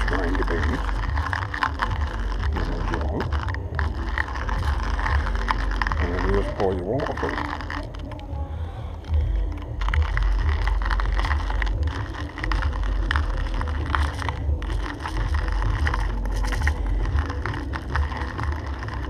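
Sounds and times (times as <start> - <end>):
gear clicking and rattling: 0.0 - 19.0.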